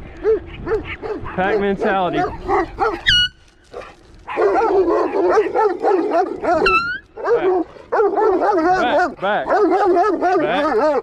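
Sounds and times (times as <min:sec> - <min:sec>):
dogs barking: 0:00.2 - 0:11.0.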